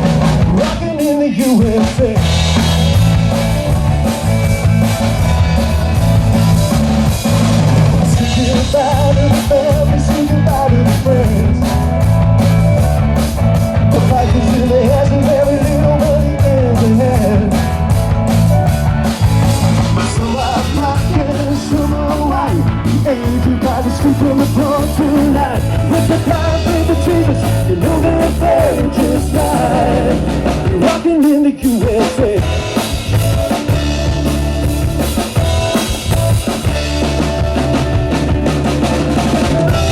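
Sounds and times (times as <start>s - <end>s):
loud rock music: 0.0s - 39.9s.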